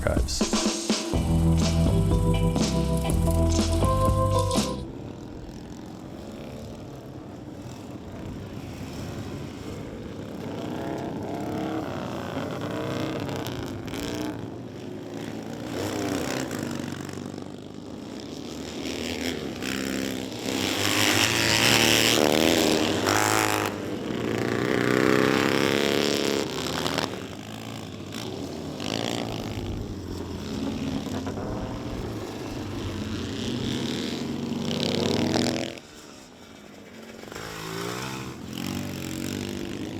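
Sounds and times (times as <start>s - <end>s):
racing motorcycle engines passing: 0.8s - 39.9s.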